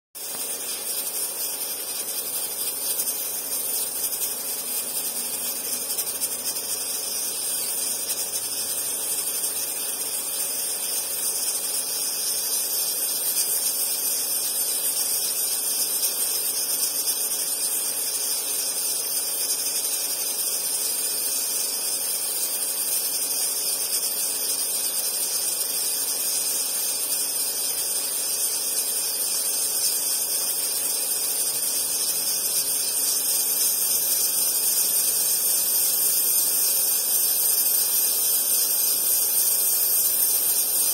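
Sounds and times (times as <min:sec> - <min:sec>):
steam hissing from pressure cooker: 0:00.2 - 0:40.9.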